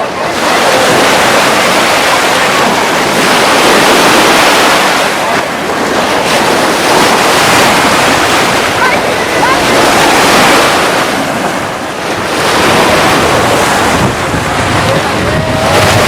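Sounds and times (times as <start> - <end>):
surf waves breaking: 0.0 - 16.0
wind on microphone: 0.0 - 16.0.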